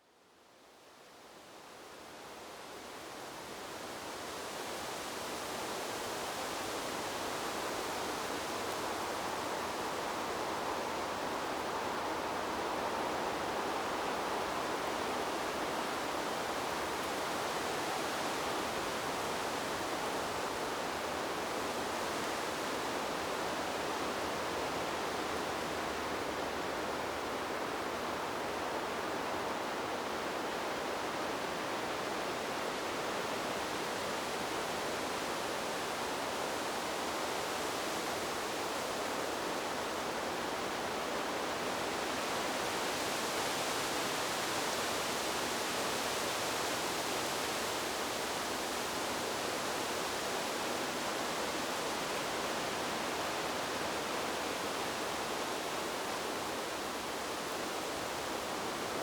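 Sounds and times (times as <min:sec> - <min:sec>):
wind blowing through trees: 0:00.0 - 0:59.0.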